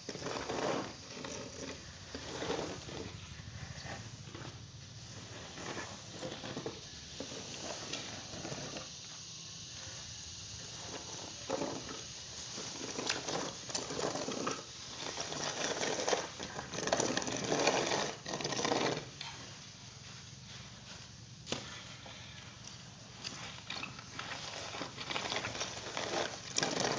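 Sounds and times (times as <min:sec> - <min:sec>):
rake dragged through rice grains: 0:00.0 - 0:08.9, 0:10.6 - 0:22.4, 0:23.1 - 0:26.9.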